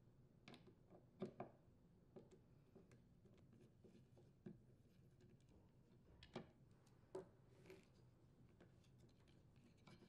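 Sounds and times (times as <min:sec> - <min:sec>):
faint clicks and taps of screws: 0:00.4 - 0:05.5, 0:06.2 - 0:10.0.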